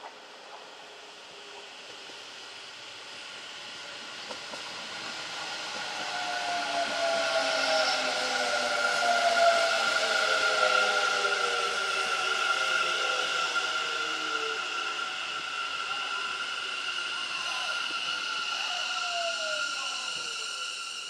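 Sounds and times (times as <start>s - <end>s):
electric train approaching: 0.0s - 21.0s
train whining tones: 0.0s - 21.0s.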